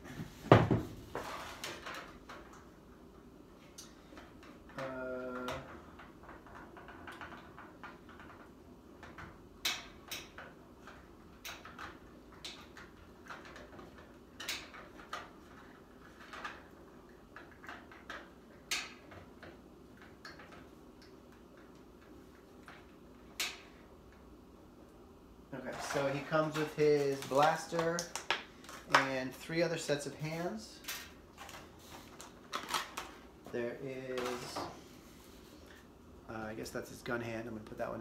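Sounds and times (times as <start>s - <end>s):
faint room hum: 0.0s - 38.0s.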